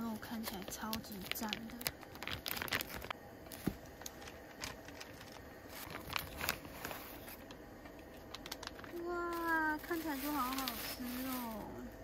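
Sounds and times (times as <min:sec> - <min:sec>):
plastic film crinkling and tearing: 0:00.0 - 0:12.0.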